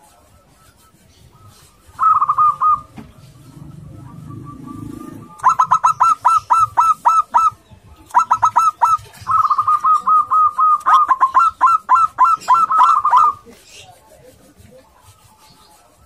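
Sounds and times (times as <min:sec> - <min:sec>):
dove rapid cooing: 0:00.0 - 0:15.7.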